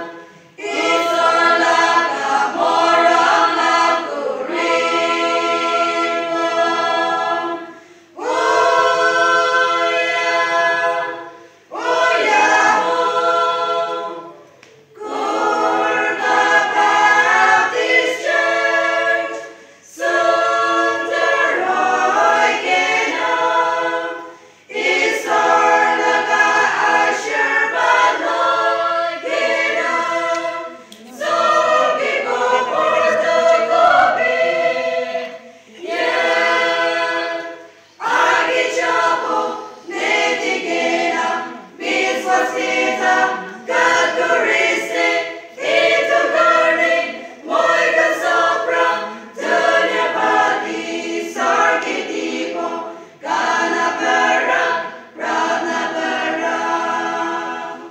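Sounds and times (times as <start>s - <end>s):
women's choir singing: 0.0s - 57.9s.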